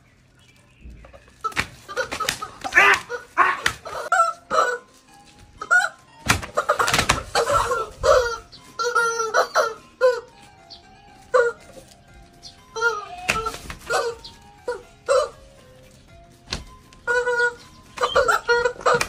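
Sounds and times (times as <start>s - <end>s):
rubber chicken toys squawking: 1.1s - 19.0s.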